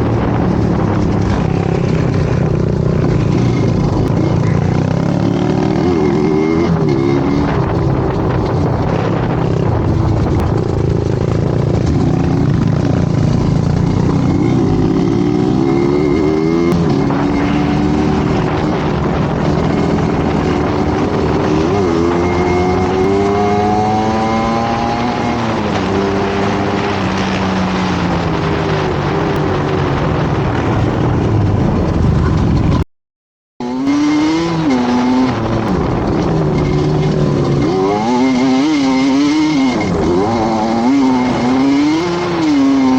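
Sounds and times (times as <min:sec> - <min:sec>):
vehicle engine revving: 0:00.0 - 0:32.8, 0:33.6 - 0:42.9.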